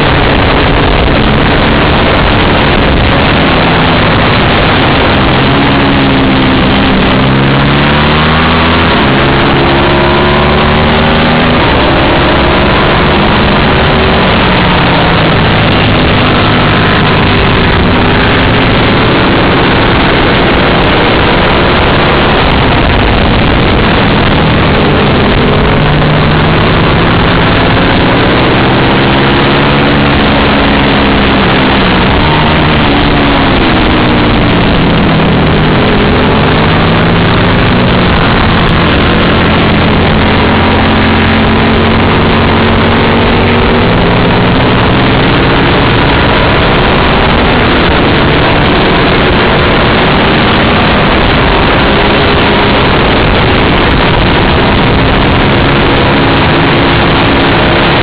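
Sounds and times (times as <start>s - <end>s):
racing motorcycle engine: 0.0s - 58.0s
wind noise: 0.0s - 58.0s.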